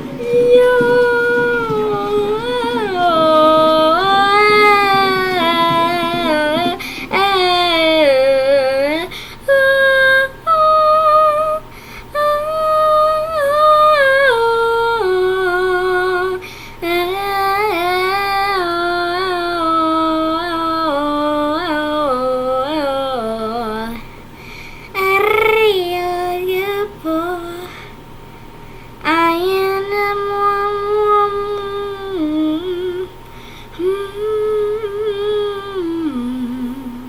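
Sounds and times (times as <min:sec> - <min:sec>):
girl singing without words: 0:00.0 - 0:24.1, 0:24.8 - 0:28.0, 0:29.0 - 0:37.0.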